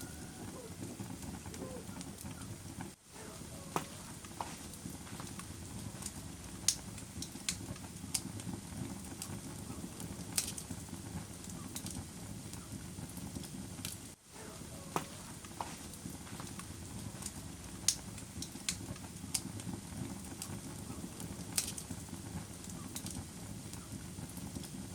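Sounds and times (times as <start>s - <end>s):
fire rumbling: 0.0s - 24.9s
logs crackling and popping: 0.0s - 24.9s.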